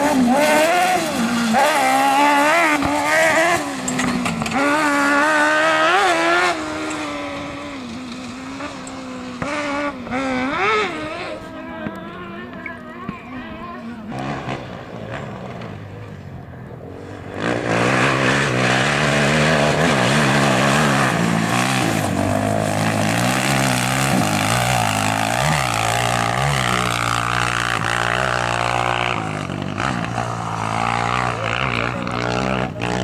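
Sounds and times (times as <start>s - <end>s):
engine revving hard: 0.0s - 11.6s, 14.1s - 16.1s, 17.0s - 33.0s.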